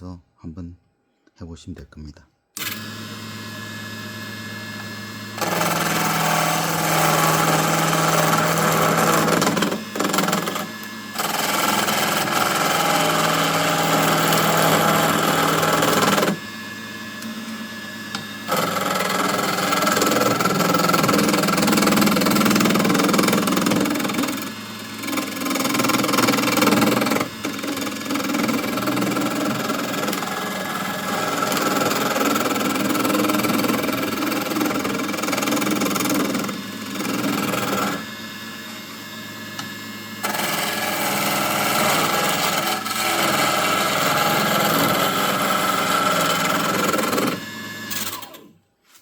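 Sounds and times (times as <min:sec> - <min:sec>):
lathe motor humming: 0:02.6 - 0:48.5
tool scraping wood on lathe: 0:05.3 - 0:16.4, 0:17.2 - 0:38.2, 0:39.6 - 0:49.0.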